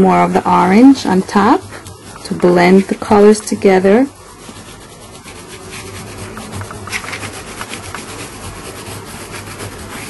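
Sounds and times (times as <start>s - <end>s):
oil pastel scratching on sandpaper: 0.0s - 10.0s.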